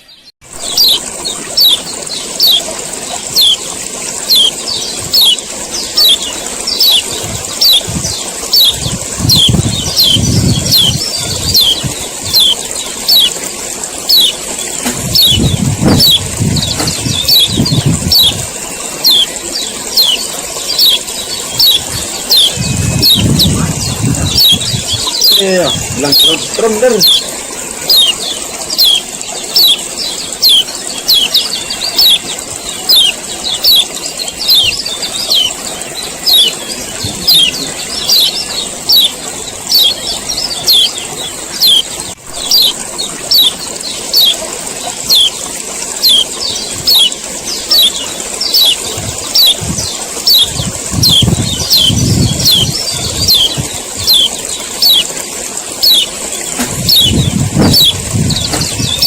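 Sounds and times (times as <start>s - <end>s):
bird chirping calls: 0.0s - 59.0s.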